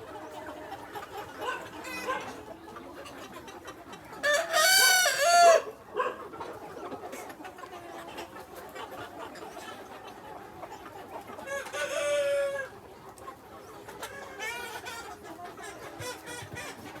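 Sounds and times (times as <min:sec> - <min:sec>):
hens clucking softly: 0:00.0 - 0:17.0.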